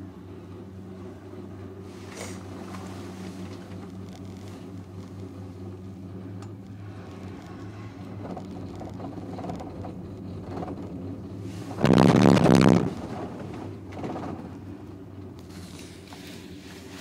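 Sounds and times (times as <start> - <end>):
low hum inside gondola cabin: 0.0 - 17.0
rapid clattering rumble: 0.5 - 17.0.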